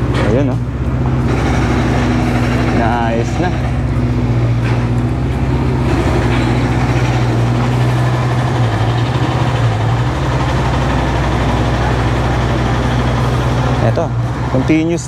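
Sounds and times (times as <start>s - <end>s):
large engine humming: 0.0s - 15.0s
outdoor noise: 0.0s - 15.0s.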